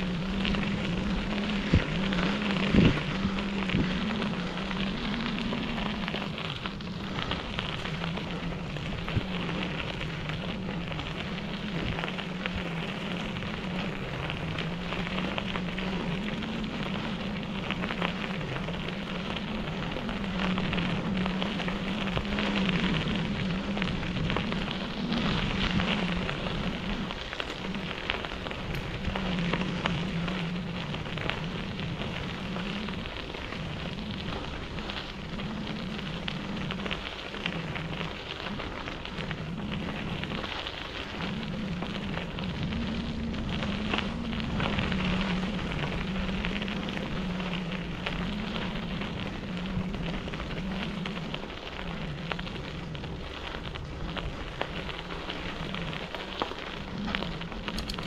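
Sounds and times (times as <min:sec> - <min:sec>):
bicycle tyres crunching on gravel: 0:00.0 - 0:58.0
low wavering hum: 0:00.0 - 0:58.0.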